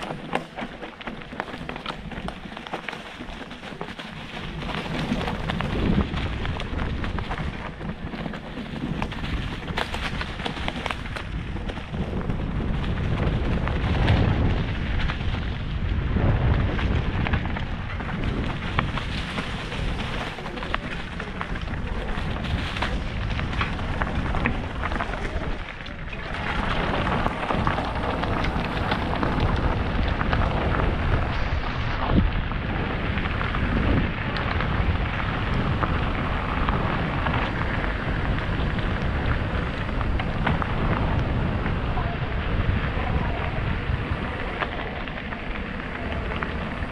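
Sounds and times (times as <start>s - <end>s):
bike knocking and rattling: 0.0s - 31.5s, 32.5s - 46.9s
bike tyres on dirt and gravel: 0.0s - 46.9s
wind buffeting microphone: 0.0s - 46.9s.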